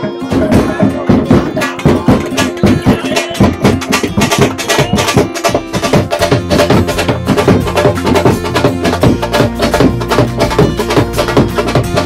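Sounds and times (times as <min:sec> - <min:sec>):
drums in fast rhythm: 0:00.0 - 0:12.0.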